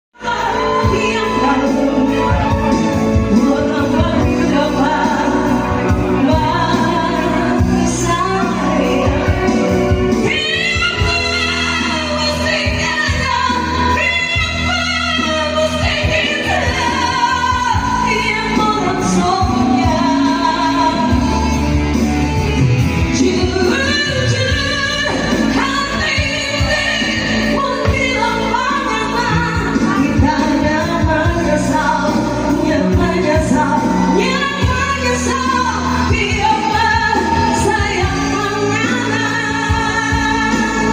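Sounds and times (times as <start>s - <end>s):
pop backing music: 0.1s - 40.9s
woman singing with vibrato: 0.2s - 40.9s.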